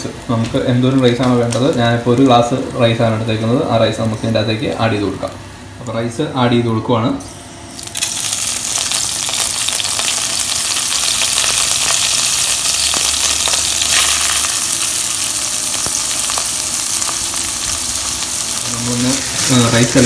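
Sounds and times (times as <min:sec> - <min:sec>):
rice sizzling in hot oil: 0:00.0 - 0:05.4, 0:07.8 - 0:20.0.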